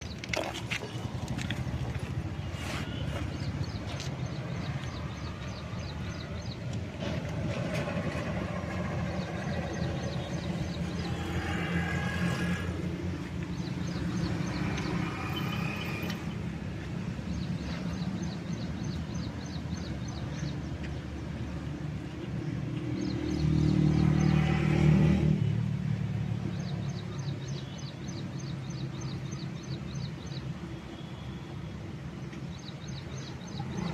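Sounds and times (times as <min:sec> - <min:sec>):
traffic rumble: 0:00.0 - 0:33.9.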